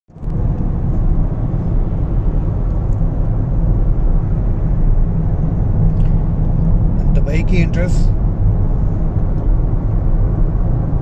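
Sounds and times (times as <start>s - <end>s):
traffic road noise rumble: 0.1s - 11.0s.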